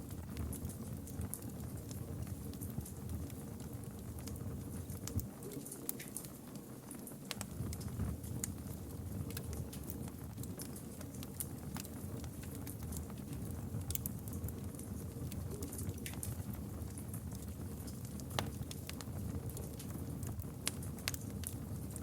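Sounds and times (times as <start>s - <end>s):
campfire crackling and popping: 0.0s - 22.0s
low rumble of burning: 0.0s - 22.0s.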